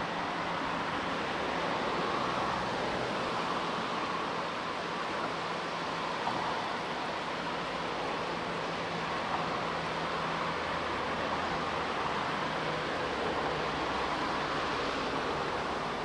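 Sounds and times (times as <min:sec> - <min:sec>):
river current rushing underwater: 0:00.0 - 0:16.0.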